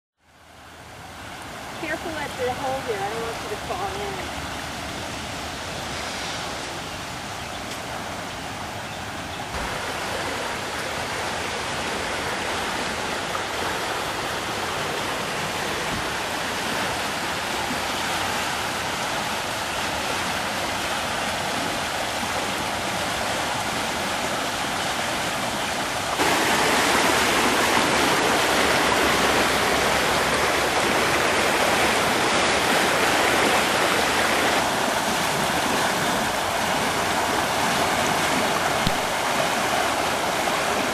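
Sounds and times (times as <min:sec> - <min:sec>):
creek water rushing: 0:00.2 - 0:40.9.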